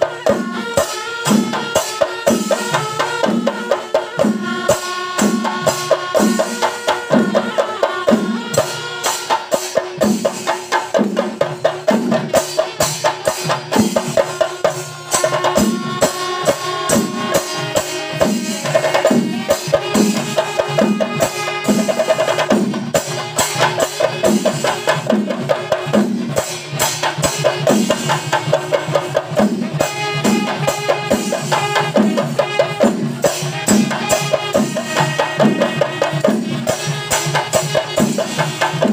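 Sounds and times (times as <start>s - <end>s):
horn lines: 0.0s - 10.5s, 12.8s - 38.9s
cymbals clashing: 0.0s - 38.9s
drum ensemble beating rhythm: 0.0s - 38.9s.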